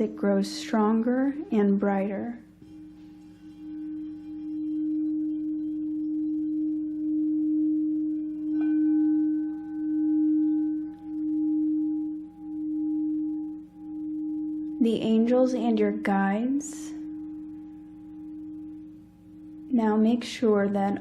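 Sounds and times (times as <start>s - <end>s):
singing bowl ringing: 0.0s - 21.0s.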